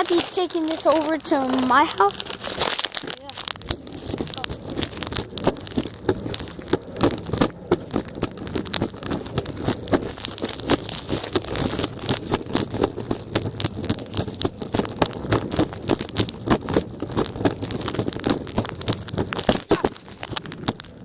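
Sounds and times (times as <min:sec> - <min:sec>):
kick scooter wheels rattling: 0:00.0 - 0:21.0.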